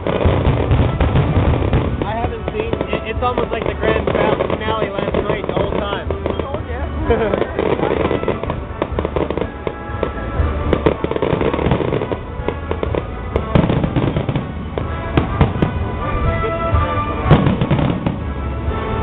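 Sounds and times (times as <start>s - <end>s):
fireworks bursting: 0.0s - 19.0s
fireworks crackling: 0.0s - 19.0s.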